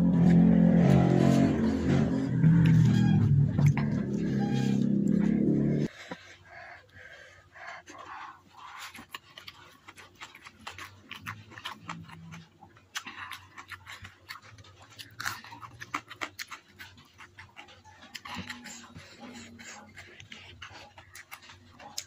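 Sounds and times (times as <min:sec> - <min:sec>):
wet chewing: 0:00.2 - 0:22.0.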